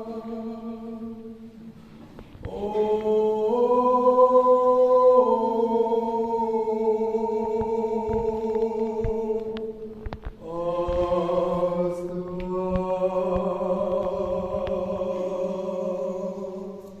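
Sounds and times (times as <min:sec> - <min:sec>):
voices chanting long notes: 0:02.5 - 0:17.0.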